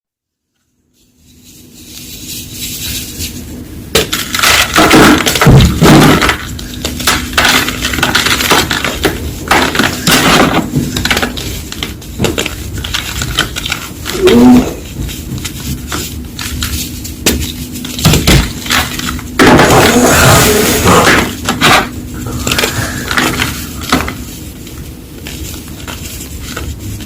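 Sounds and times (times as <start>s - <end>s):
chalk blocks crunching: 1.6s - 27.0s.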